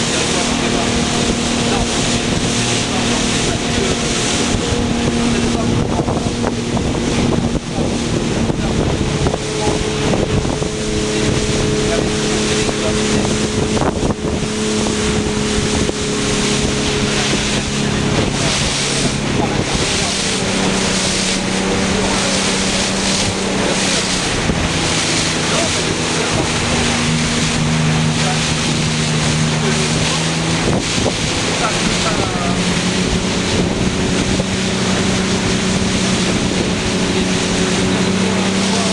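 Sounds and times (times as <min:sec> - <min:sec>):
motorboat engine running: 0:00.0 - 0:38.9
water rushing along hull: 0:00.0 - 0:38.9
wind buffeting microphone: 0:00.0 - 0:38.9.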